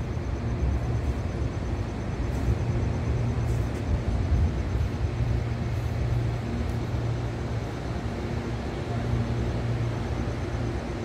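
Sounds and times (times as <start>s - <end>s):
faint hum: 0.0s - 11.0s
low rumble of rail yard and city: 0.0s - 11.0s.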